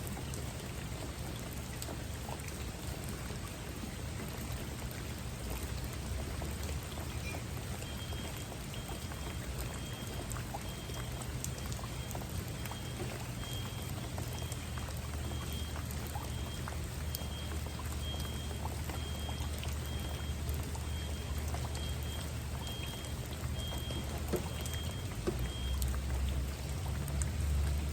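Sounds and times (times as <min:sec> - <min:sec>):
rain falling: 0:00.0 - 0:27.9.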